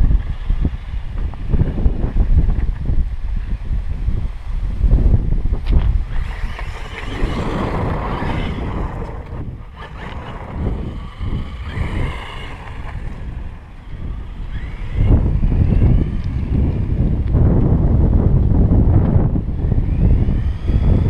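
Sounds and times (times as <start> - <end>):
electric motor whine: 0.0 - 21.0
wind buffeting microphone: 0.0 - 21.0.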